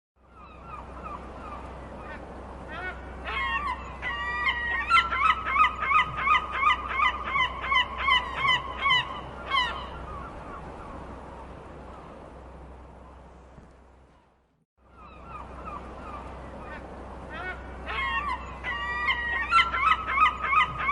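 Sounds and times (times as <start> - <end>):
seagull calling: 0.2 - 12.2, 14.1 - 20.9.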